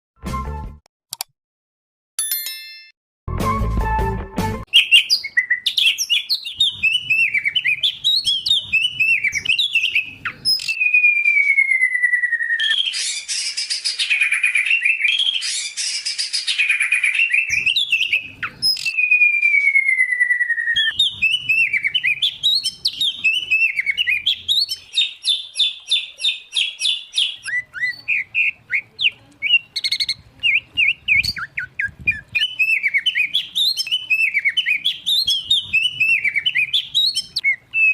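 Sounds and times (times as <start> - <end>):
songbirds singing: 4.7 - 37.9.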